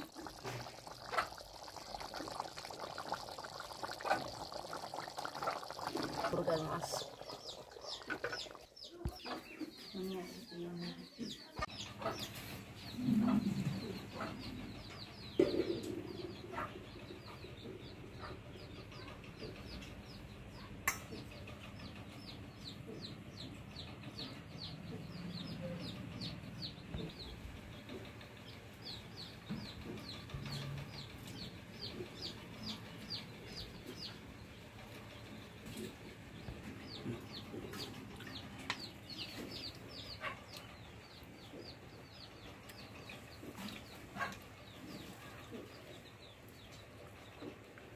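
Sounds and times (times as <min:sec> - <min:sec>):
chickens clucking and chirping: 0:00.0 - 0:47.9.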